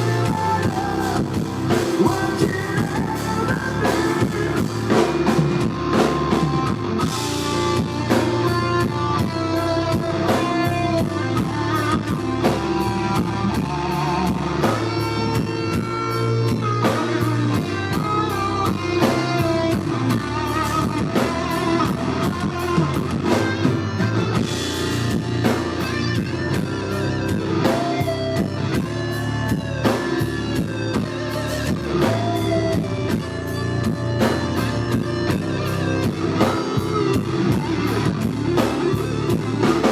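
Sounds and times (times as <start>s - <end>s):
blues-rock band playing: 0.0s - 39.9s
electric guitar lead line: 0.0s - 39.9s.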